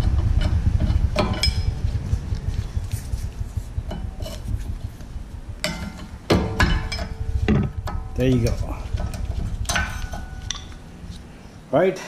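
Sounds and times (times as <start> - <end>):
low background rumble: 0.0 - 11.7.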